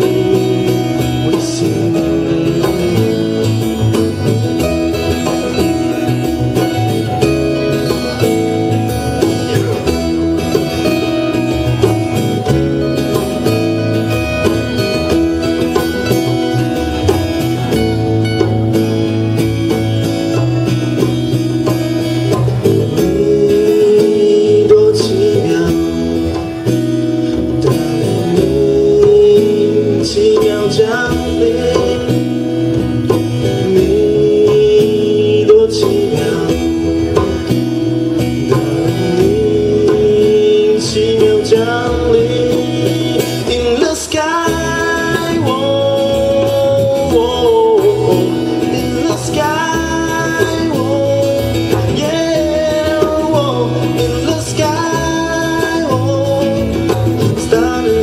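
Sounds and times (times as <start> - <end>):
live band playing: 0.0 - 58.0
sliding lead melody: 0.0 - 58.0.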